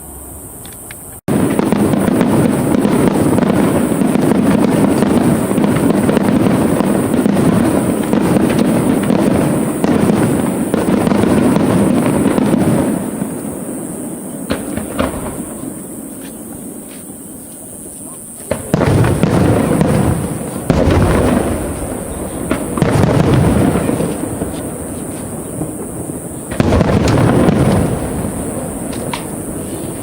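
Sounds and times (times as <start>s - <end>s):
fireworks bursting and crackling: 0.7s - 30.0s
sharp firework bangs: 1.3s - 17.1s, 18.2s - 30.0s.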